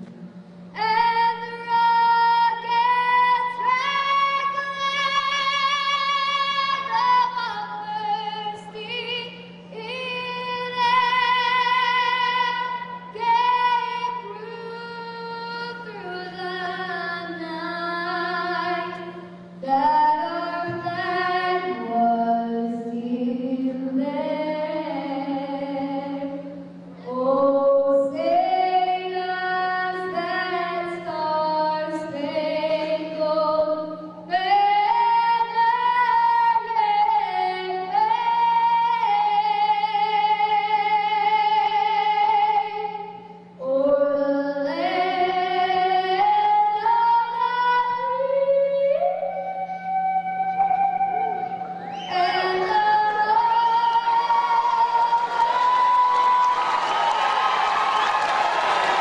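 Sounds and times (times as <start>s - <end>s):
girl singing into microphone: 0.6s - 56.5s.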